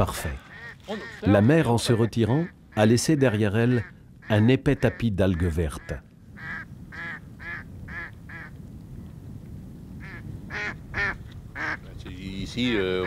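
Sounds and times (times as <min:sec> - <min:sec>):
ducks quacking: 0:00.0 - 0:08.5, 0:10.0 - 0:11.9, 0:12.5 - 0:13.0.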